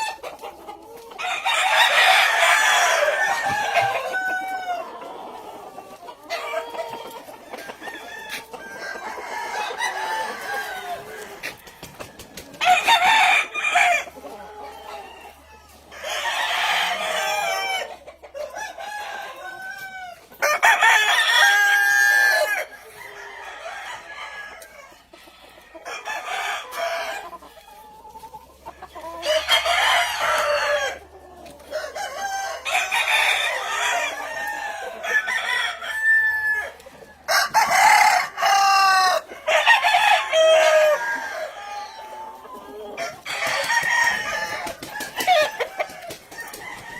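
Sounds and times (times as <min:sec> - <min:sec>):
hens clucking: 0:00.0 - 0:46.9
roosters crowing: 0:00.0 - 0:46.9.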